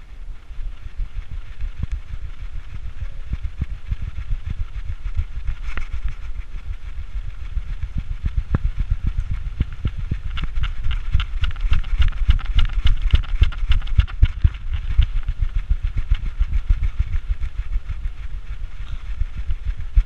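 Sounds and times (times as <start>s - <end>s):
camera handling rumble: 0.8s - 17.1s.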